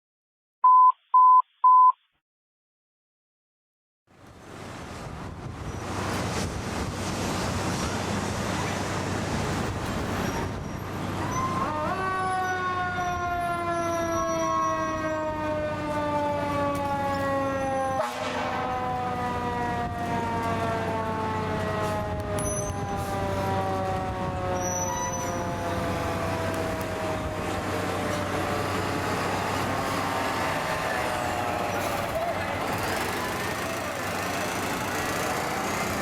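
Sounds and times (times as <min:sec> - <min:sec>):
fire engine motor and road noise: 0:04.1 - 0:36.0.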